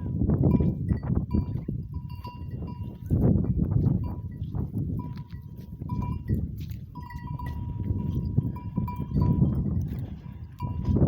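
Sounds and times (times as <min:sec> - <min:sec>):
goat bells ringing: 0:00.0 - 0:11.0
goats feeding on leaves: 0:01.9 - 0:11.0.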